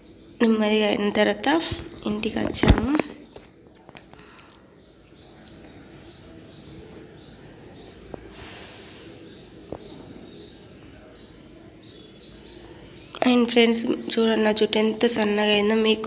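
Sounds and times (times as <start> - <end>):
bird chirping: 0.0 - 16.0
faint outdoor background noise: 0.0 - 16.0.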